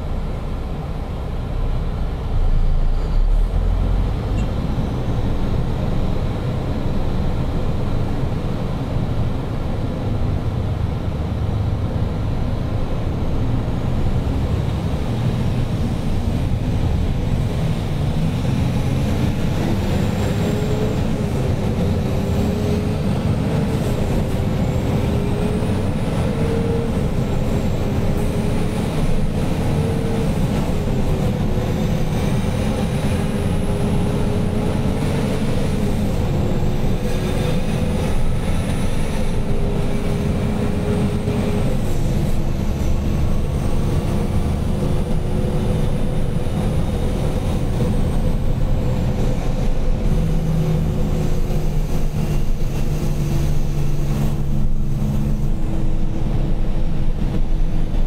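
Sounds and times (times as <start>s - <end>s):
engine whine: 0.0s - 58.0s
truck engine rumbling: 0.0s - 58.0s.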